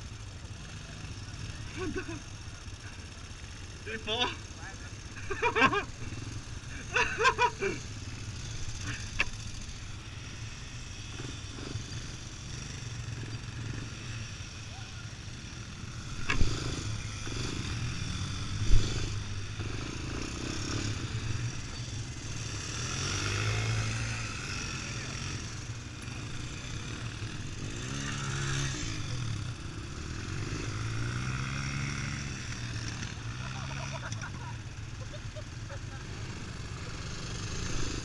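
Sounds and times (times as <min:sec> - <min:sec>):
atv engine revving: 0:00.0 - 0:38.0
atv engines idling: 0:00.0 - 0:38.0.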